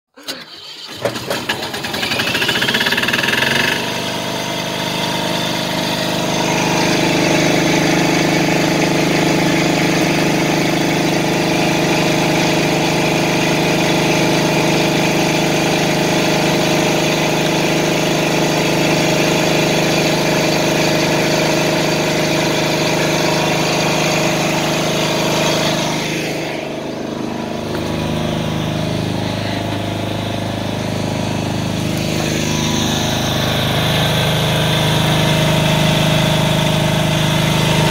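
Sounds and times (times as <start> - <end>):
generator engine starting and running: 0.1 - 37.9.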